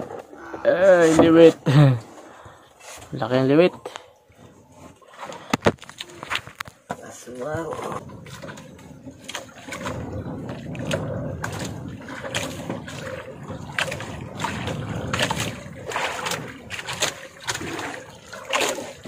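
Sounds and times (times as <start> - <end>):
water splashing against boat hull: 0.0 - 19.0.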